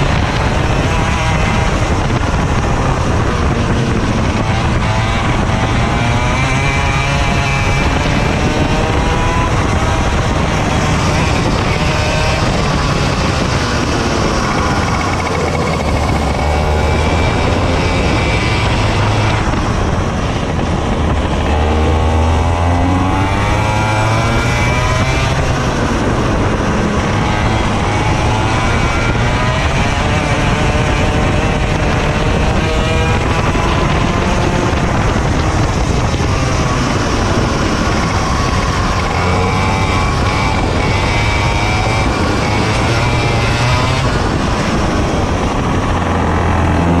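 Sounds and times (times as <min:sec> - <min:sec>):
racing kart engine revving: 0:00.0 - 0:47.0.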